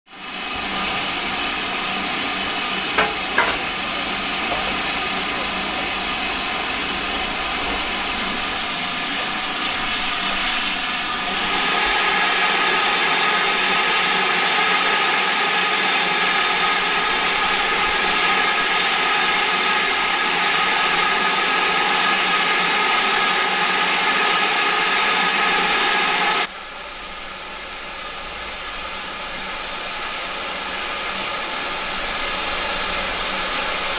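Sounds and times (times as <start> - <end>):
steam locomotive hissing: 0.1 - 33.9.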